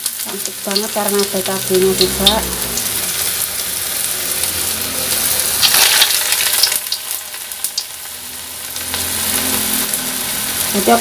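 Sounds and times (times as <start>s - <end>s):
fritters frying in hot oil: 0.0s - 11.0s.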